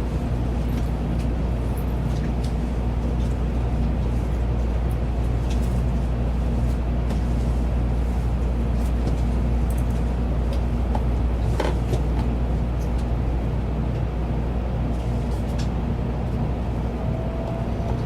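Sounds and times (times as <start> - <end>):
train rumbling inside car: 0.0 - 18.0.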